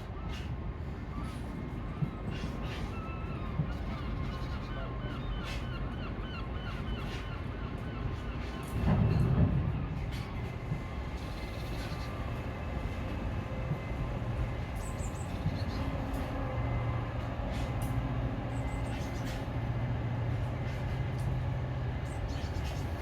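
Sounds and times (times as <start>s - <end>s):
train engine hum: 0.0s - 23.0s.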